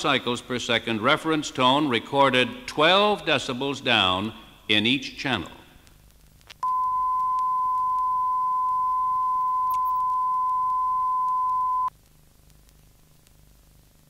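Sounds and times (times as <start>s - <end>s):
faint tape hiss: 0.0s - 14.0s.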